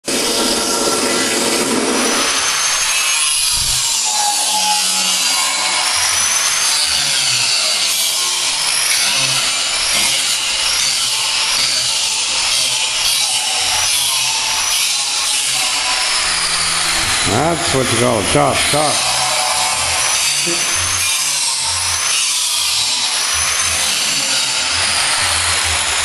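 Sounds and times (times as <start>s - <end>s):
cut-off wheel grinding steel: 0.0s - 26.0s.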